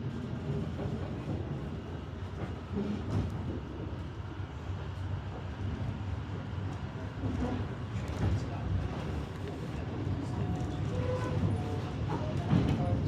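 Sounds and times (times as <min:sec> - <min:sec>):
train running on rails: 0:00.0 - 0:13.0.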